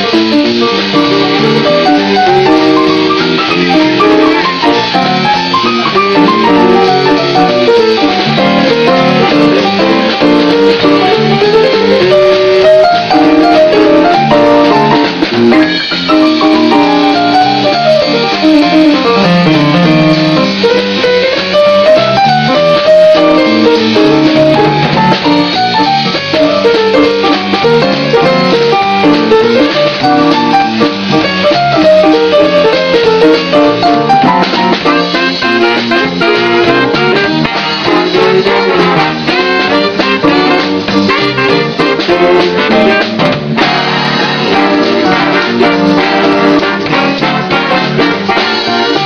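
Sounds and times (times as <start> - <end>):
saxophones: 0.0 - 21.0, 21.6 - 49.0
big band playing: 0.0 - 49.0
drum kit: 0.0 - 49.0.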